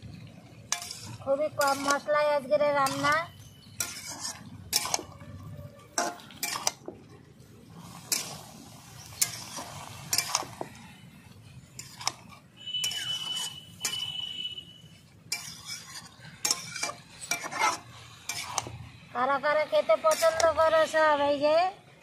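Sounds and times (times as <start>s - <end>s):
light sizzle: 0.0s - 22.0s
metal spatula scraping a wok: 0.5s - 19.1s, 19.7s - 21.0s.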